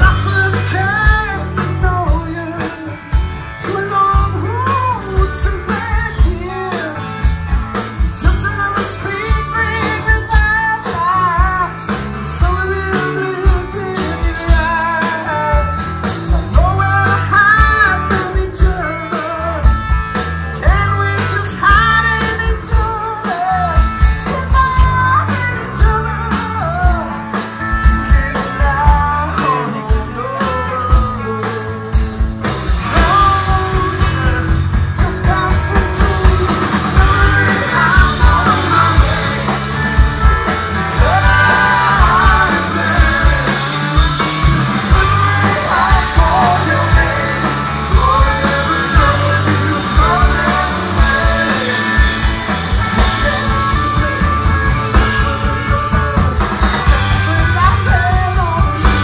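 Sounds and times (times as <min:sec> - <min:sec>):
live rock band: 0:00.0 - 0:59.0
man singing: 0:00.0 - 0:59.0.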